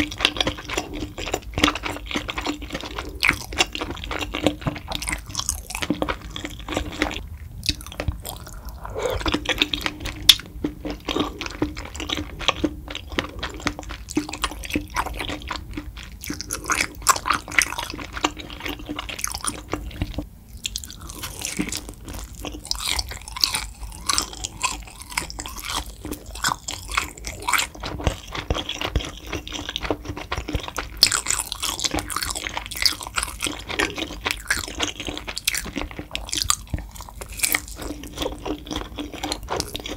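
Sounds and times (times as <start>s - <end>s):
close-miked wet chewing: 0.0s - 39.9s.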